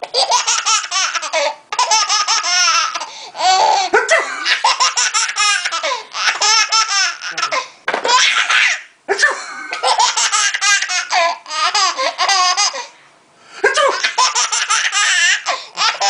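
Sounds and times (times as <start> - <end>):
baby laughing: 0.0 - 12.9, 13.7 - 16.0.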